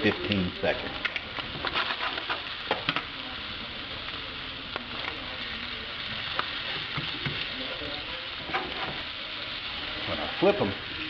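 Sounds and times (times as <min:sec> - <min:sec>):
fish fillets sizzling in butter: 0:00.0 - 0:11.0.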